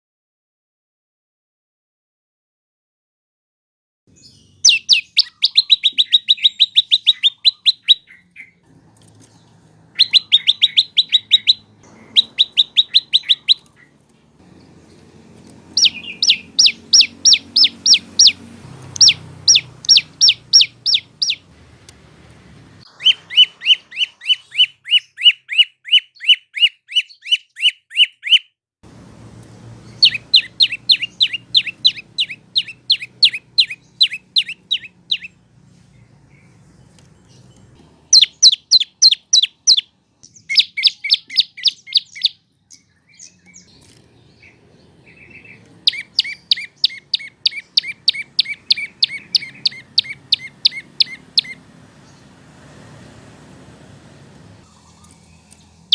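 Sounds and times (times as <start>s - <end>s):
songbird singing rapid notes: 4.1s - 21.6s, 22.8s - 28.5s, 29.7s - 52.6s, 54.5s - 55.9s.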